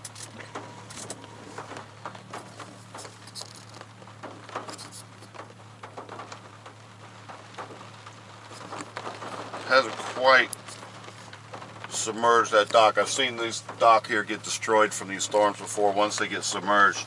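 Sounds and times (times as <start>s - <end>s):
car low hum: 0.0s - 17.0s
rain tapping on car roof: 0.0s - 17.0s.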